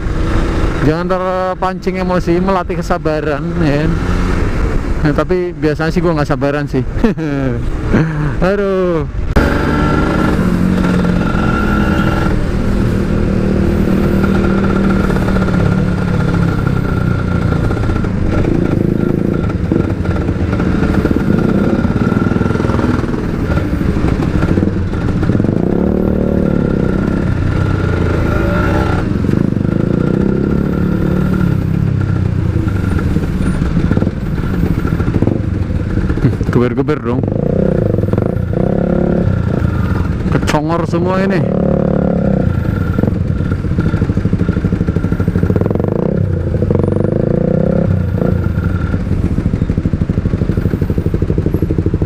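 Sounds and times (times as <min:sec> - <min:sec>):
motorcycle engine revving while riding: 0:00.0 - 0:52.0.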